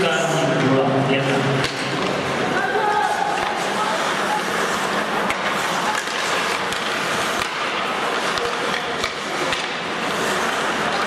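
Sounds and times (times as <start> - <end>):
hockey sticks clacking: 1.6 - 11.0
skates scraping ice: 1.7 - 11.0.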